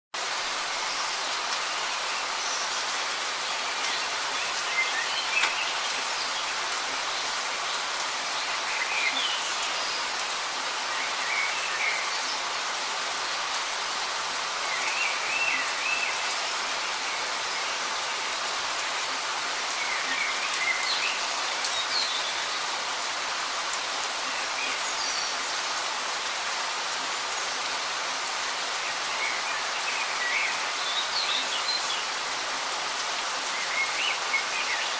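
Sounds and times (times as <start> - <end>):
light rain pattering: 0.2 - 34.9.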